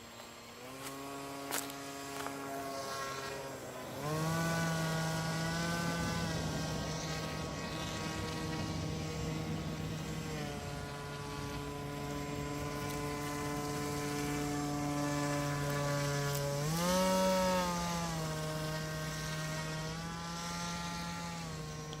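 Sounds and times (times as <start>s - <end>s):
electric motor and propeller buzzing: 0.0s - 22.0s.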